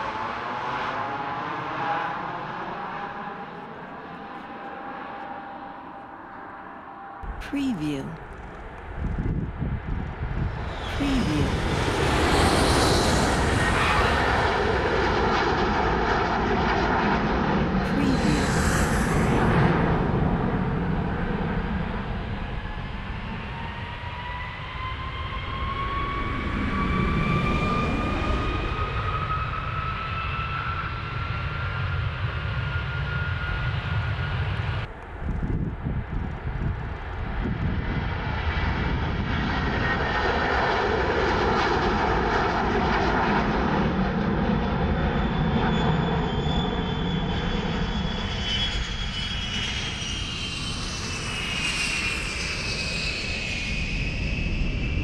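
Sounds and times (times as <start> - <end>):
jet engines at takeoff: 0.0 - 7.2, 8.4 - 55.0
aircraft engines passing by: 8.2 - 55.0.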